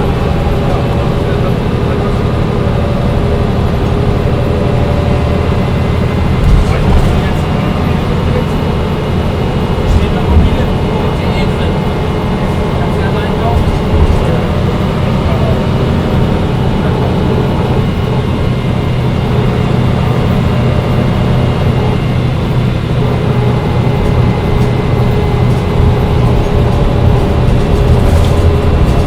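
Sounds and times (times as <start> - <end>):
bus cabin running noise: 0.0 - 29.0
bus engine drone: 0.0 - 29.0.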